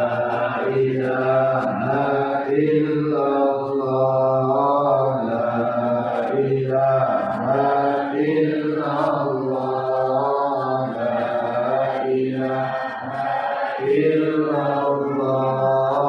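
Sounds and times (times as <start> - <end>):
person chanting melodic phrases: 0.0 - 16.0.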